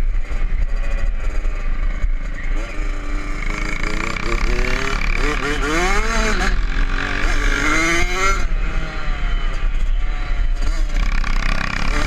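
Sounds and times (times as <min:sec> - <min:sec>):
two-stroke engine revving: 0:00.0 - 0:09.4, 0:10.1 - 0:12.0.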